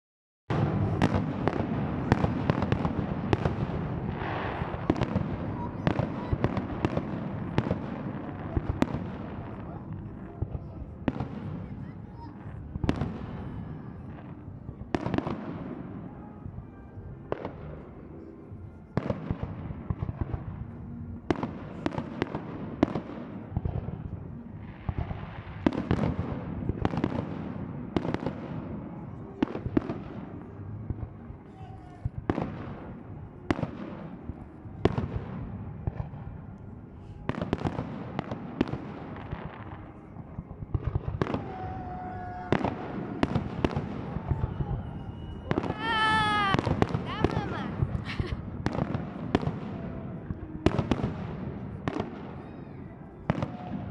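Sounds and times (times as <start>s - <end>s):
fireworks bursting: 0.5s - 18.3s, 18.9s - 53.9s.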